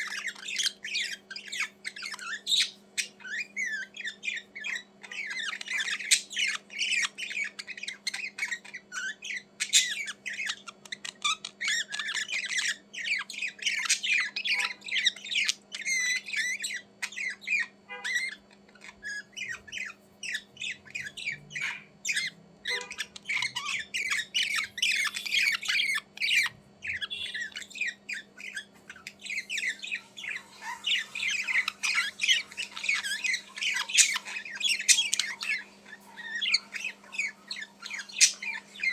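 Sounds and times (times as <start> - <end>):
budgerigars chattering: 0.0 - 38.9
faint steady hum: 0.0 - 38.9.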